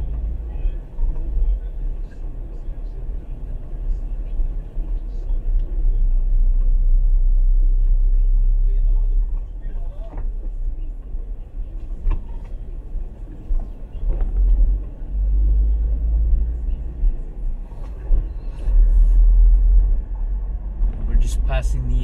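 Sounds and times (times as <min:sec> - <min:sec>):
car driving rumble from inside: 0:00.0 - 0:22.0.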